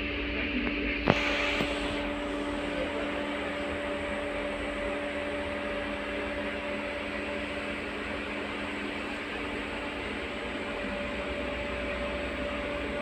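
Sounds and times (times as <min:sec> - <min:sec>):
electrical hum with tones: 0:00.0 - 0:13.0.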